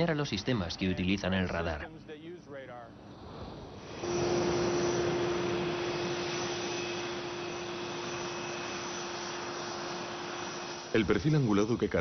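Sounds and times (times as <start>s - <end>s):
jet engine running: 0.0s - 12.0s.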